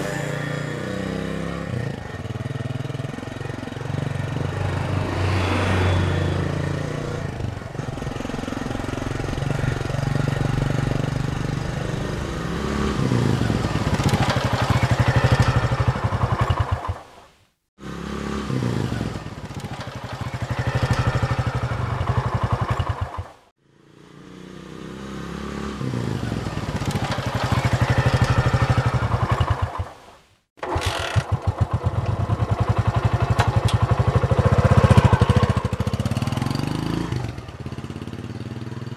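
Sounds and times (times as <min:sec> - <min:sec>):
motorcycle engine: 0:00.0 - 0:17.1, 0:17.8 - 0:30.0, 0:30.6 - 0:38.9.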